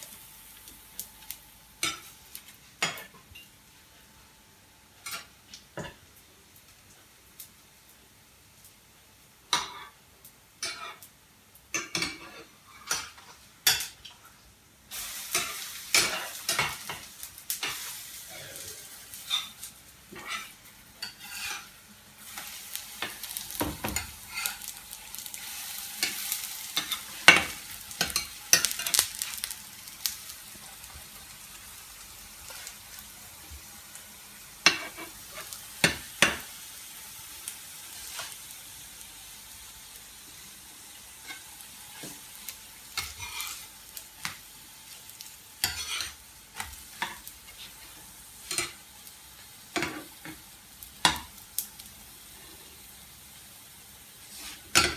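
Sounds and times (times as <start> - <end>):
batter sizzling in hot oil: 0.0 - 54.9.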